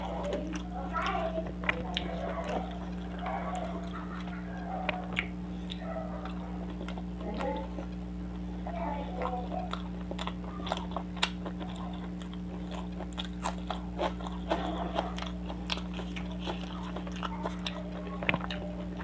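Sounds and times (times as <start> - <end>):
close chewing with mouth clicks: 0.0 - 19.0
steady low hum: 0.0 - 19.0.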